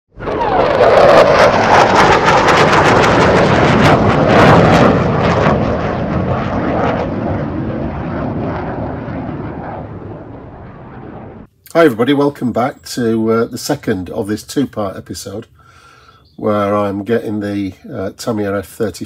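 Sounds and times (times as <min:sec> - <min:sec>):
jet aircraft passing: 0:00.1 - 0:17.1.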